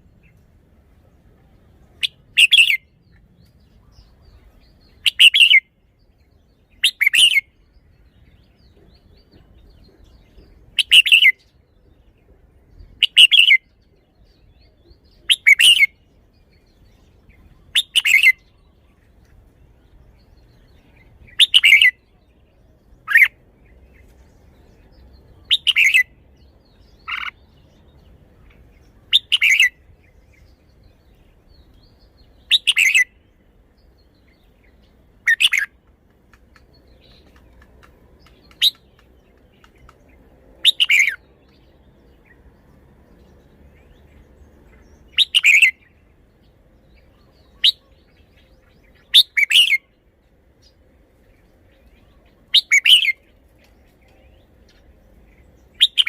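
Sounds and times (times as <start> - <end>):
bulbul singing: 1.9 - 56.0.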